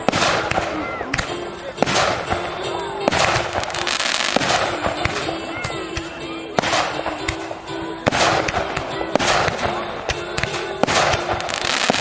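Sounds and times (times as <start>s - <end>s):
fireworks bangs: 0.0s - 12.0s
fireworks crackle: 0.0s - 12.0s
music playing: 0.0s - 12.0s.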